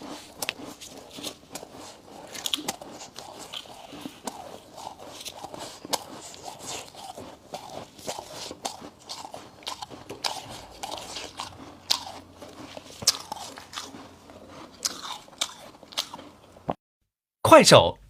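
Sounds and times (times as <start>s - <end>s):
crunching of frost being chewed: 0.0s - 16.8s.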